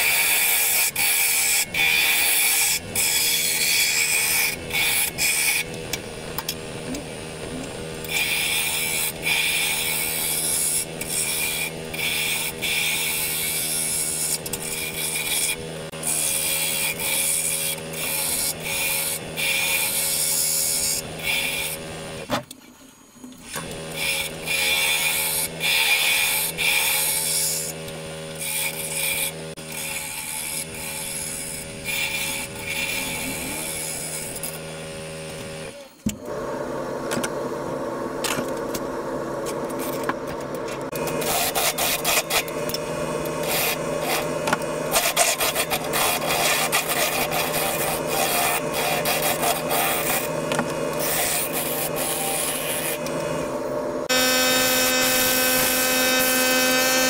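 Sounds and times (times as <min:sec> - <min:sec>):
turning tool scraping wood: 0:00.0 - 0:22.3, 0:23.4 - 0:36.0, 0:39.4 - 0:57.0
wood lathe motor hum: 0:00.0 - 0:22.3, 0:23.4 - 0:57.0.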